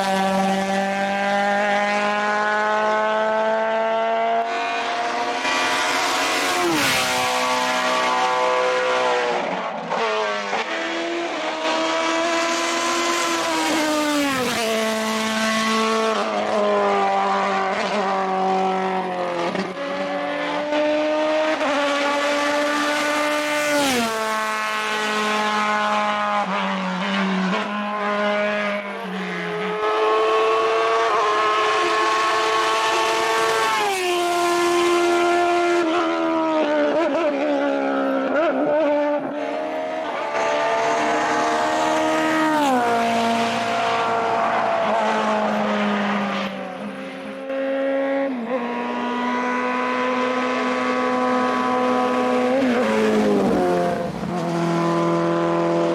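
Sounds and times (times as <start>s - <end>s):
race car engine at high revs: 0.0s - 55.9s.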